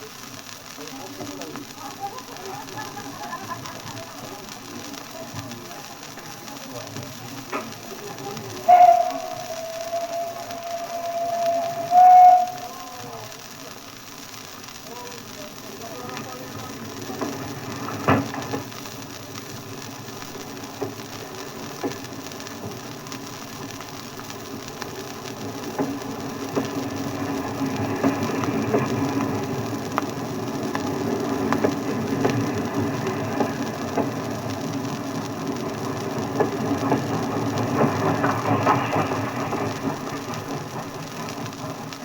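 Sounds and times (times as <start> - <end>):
train rumbling clatter: 0.0 - 14.1, 14.9 - 42.0.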